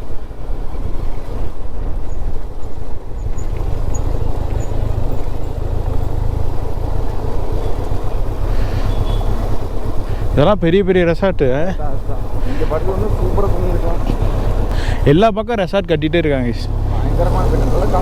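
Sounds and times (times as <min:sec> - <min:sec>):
motorcycle engine and road rumble: 0:00.0 - 0:18.0.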